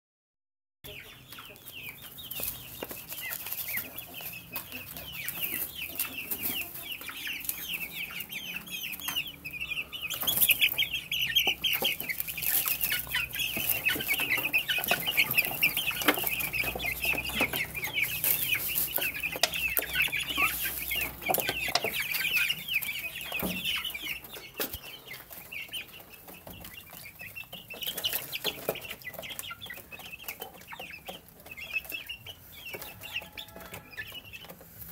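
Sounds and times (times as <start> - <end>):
chicks peeping: 0.8 - 34.9.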